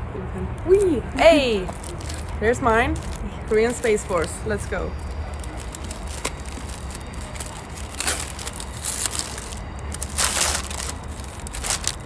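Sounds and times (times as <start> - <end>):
paper wrapping tearing: 1.6 - 4.4, 5.0 - 12.0.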